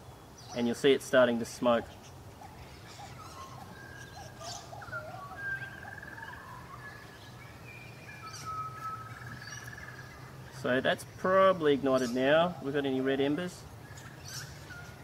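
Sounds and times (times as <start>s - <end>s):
birds chirping and trilling: 0.0s - 15.0s
steady low hum: 0.0s - 15.0s.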